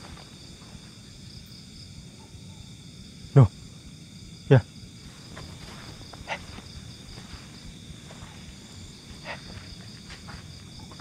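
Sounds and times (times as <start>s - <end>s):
crickets and night insects chirping: 0.0s - 11.0s.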